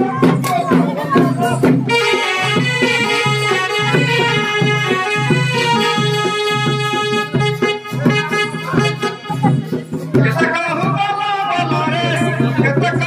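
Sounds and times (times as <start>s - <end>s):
barrel drum beating: 0.0s - 13.0s.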